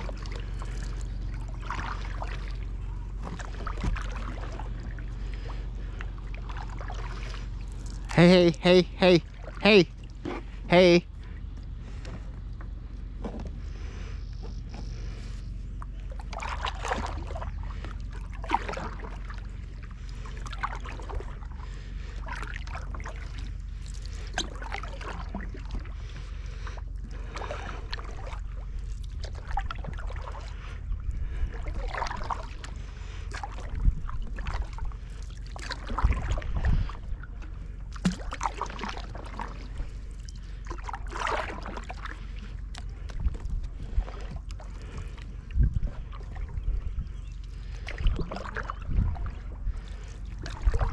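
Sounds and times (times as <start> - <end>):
low rumble: 0.0 - 50.9
paddle splashing in water: 0.0 - 50.9.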